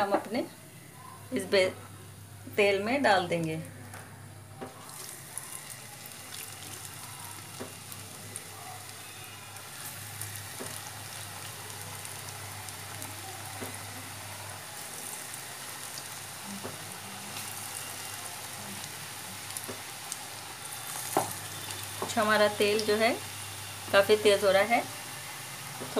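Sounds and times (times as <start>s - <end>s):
oil sizzling with small pops: 4.6s - 25.9s.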